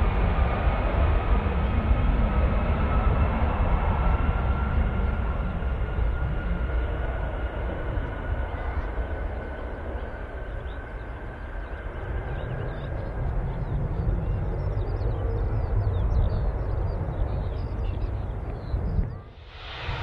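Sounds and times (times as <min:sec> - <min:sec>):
jet airliner engines running: 0:00.0 - 0:20.0.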